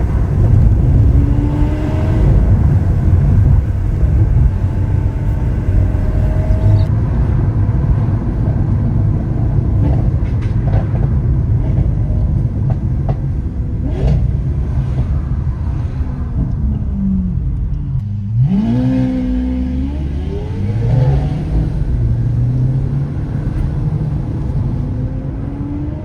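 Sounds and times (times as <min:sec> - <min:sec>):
car engine cruising: 0:00.0 - 0:26.0
road and wind noise: 0:00.0 - 0:26.0.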